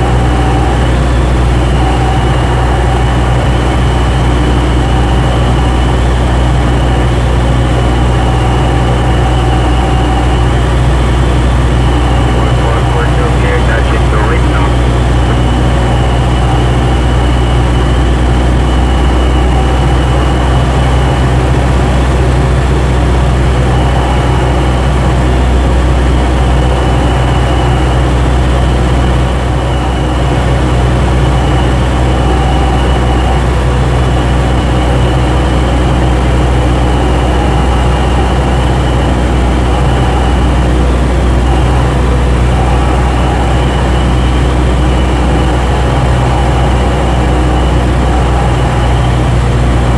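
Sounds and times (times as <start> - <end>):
propeller aircraft engine droning: 0.0 - 49.9.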